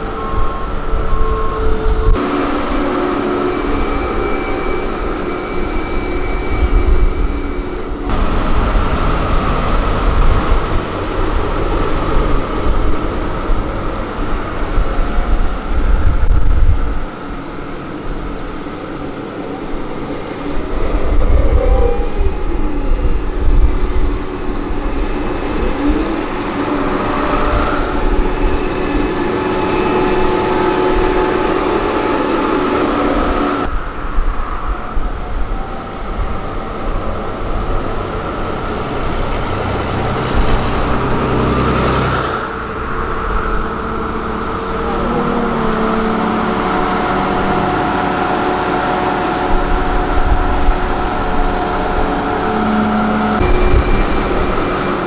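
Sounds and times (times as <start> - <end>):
diesel road roller engines rumbling: 0.0 - 55.0.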